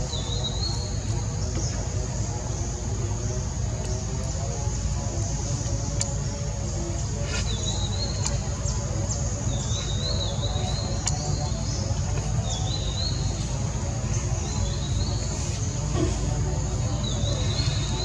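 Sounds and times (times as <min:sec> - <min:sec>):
high background hum: 0:00.0 - 0:18.0.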